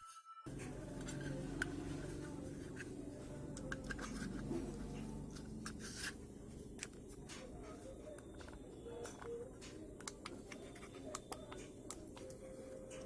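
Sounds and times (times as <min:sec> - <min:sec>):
battery cells clicking and scraping: 0:00.5 - 0:13.0
steady low hum: 0:00.5 - 0:13.0.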